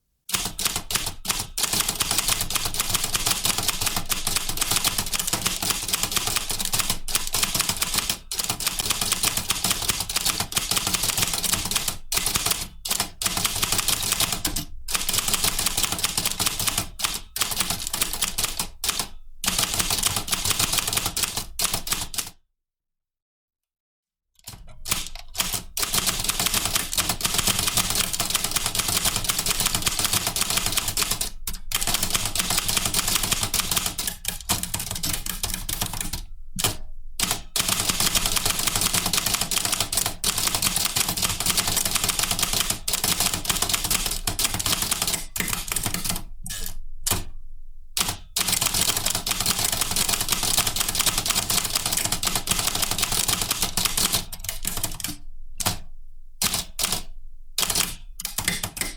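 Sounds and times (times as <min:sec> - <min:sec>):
typewriter keys typing: 0:00.3 - 0:22.3, 0:24.4 - 0:47.3, 0:48.0 - 0:58.9.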